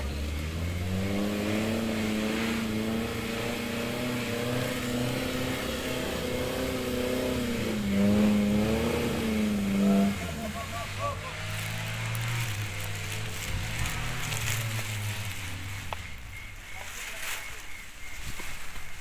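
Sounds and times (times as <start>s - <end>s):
engine revving hard: 0.0s - 16.6s.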